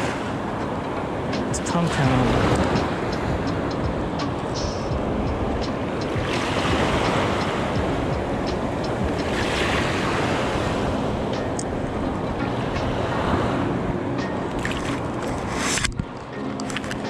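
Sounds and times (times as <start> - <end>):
wind buffeting the microphone: 0.0 - 16.3
surf washing over shallow reef: 0.0 - 17.0.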